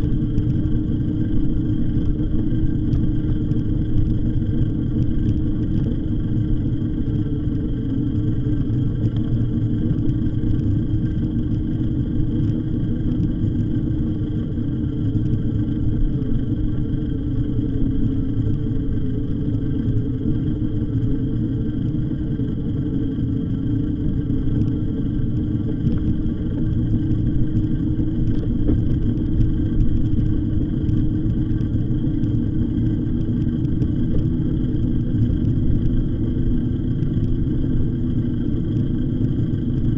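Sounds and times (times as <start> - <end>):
e-bike riding rumble: 0.0 - 39.9
steady hum: 0.0 - 39.9.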